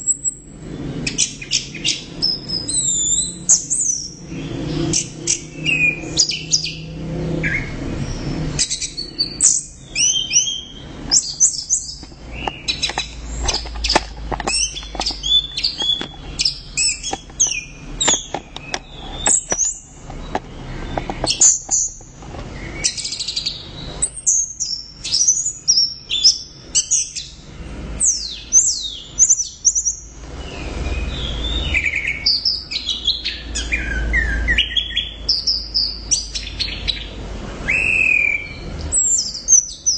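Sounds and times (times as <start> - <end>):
thrush singing whistled song: 0.0 - 22.0, 22.6 - 39.9.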